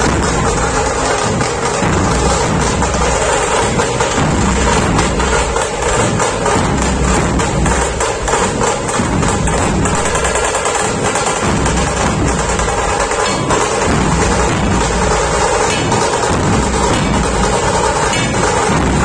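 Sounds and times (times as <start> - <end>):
barrel drums and snare drums: 0.0 - 19.0.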